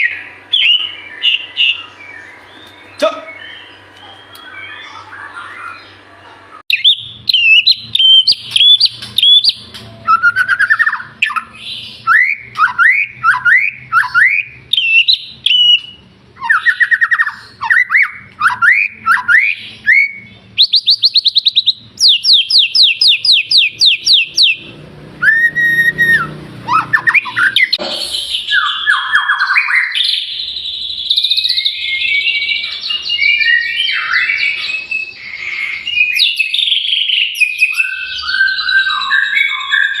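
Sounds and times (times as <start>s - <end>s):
bird singing whistled song: 0.0s - 6.0s, 6.7s - 40.0s.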